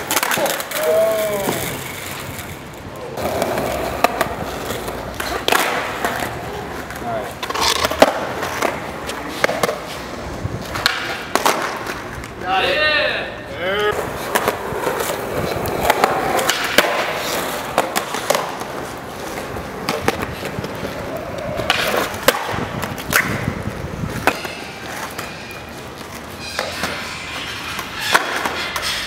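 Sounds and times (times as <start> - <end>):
skateboard deck clacking: 0.0 - 12.4, 14.0 - 28.8
skateboard wheels rolling on concrete: 0.0 - 29.0.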